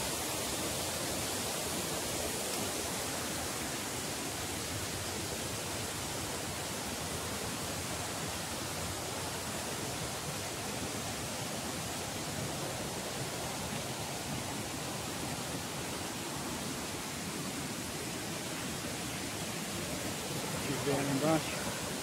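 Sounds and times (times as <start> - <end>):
river and waterfalls rushing: 0.0 - 22.0.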